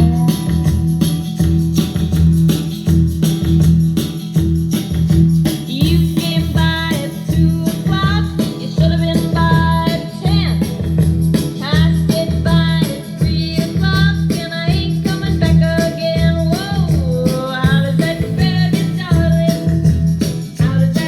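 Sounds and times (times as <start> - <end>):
pop song through speakers: 0.0 - 1.7, 5.7 - 21.0
jingling percussion: 0.0 - 21.0.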